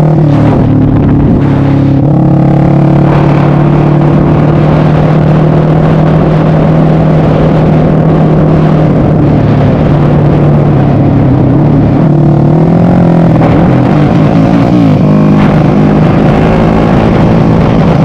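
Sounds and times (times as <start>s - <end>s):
motorcycle engine running steadily: 0.0s - 18.0s.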